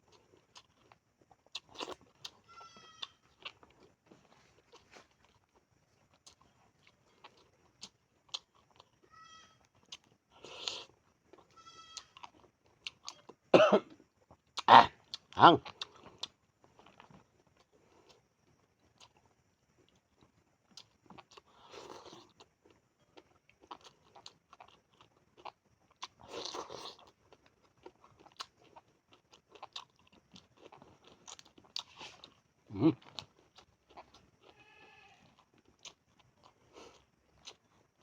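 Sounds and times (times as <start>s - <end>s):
person crunching and chewing: 0.0s - 9.0s, 9.6s - 13.4s, 14.3s - 34.6s, 35.2s - 38.0s.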